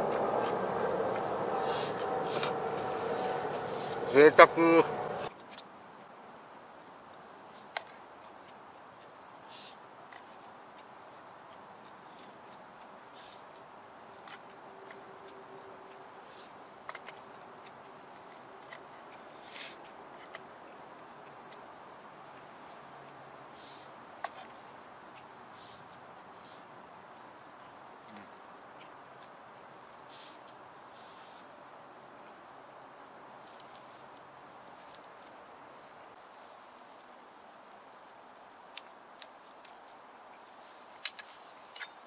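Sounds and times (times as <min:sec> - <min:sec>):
faint steady hiss: 0:00.0 - 0:42.0.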